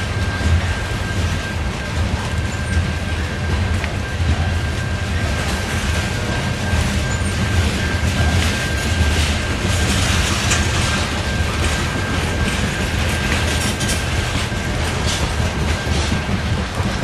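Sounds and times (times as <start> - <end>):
high-pitched wheel whine: 0.0 - 17.0
low train rumble: 0.0 - 17.0
train wheels clacking over rail joints: 0.0 - 17.0.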